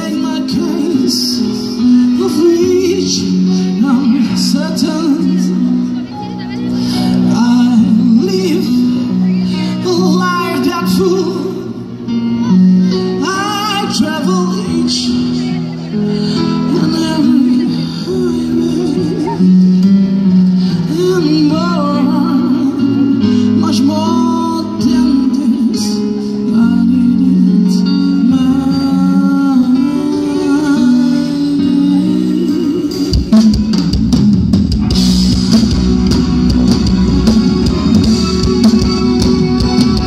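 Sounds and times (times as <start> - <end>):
man singing: 0.0 - 34.2, 35.6 - 40.0
live band playing: 0.0 - 40.0.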